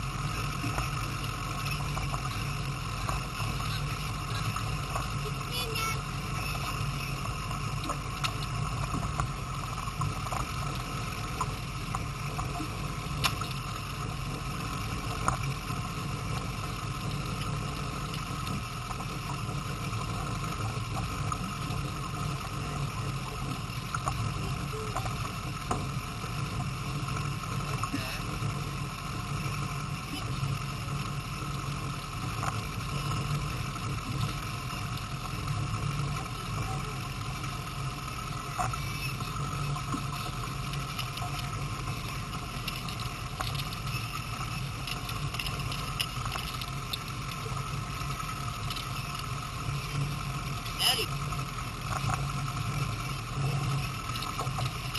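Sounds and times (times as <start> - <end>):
outboard motor idling: 0.0 - 54.9.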